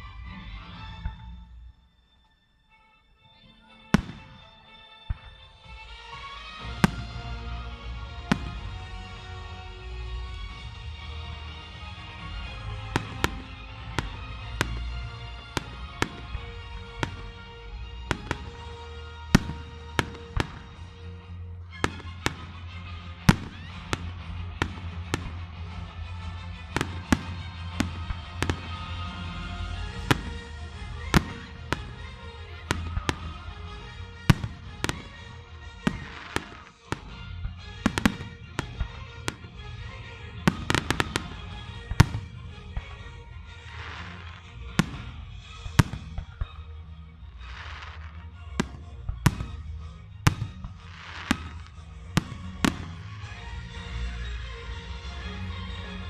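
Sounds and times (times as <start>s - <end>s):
music: 0.0s - 56.0s
fireworks bursting in sharp bangs: 3.9s - 9.5s, 12.0s - 21.1s, 21.8s - 53.8s.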